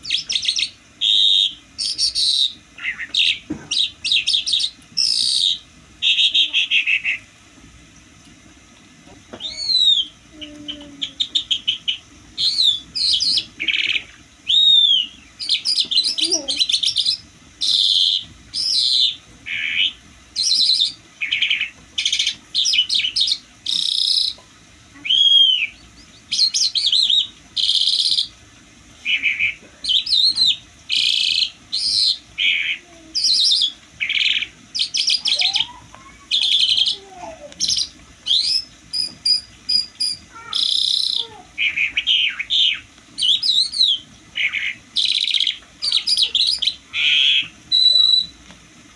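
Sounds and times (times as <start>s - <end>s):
lark singing trills and whistles: 0.0s - 7.2s, 9.4s - 10.2s, 11.0s - 24.4s, 25.1s - 28.3s, 29.0s - 37.0s, 37.6s - 48.4s.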